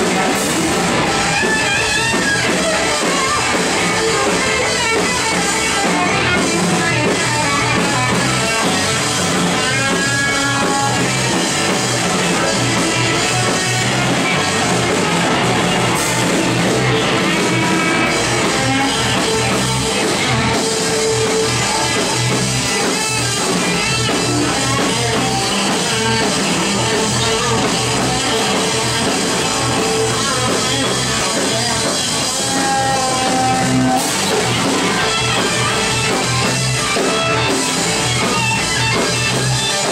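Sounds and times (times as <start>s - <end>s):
electric guitar lead notes: 0.0s - 39.9s
rock band playing: 0.0s - 39.9s.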